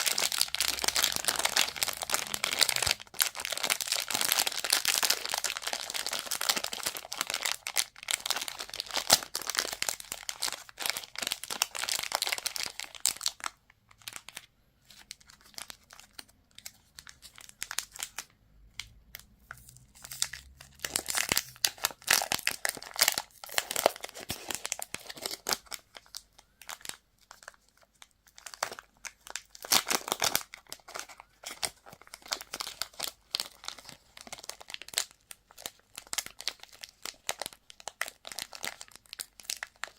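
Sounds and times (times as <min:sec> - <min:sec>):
plastic wrappers crinkling: 0:00.0 - 0:39.9.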